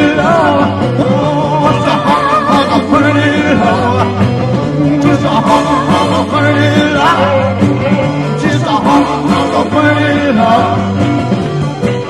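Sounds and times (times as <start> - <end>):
person singing: 0.0 - 11.0
live rock band playing: 0.0 - 12.0.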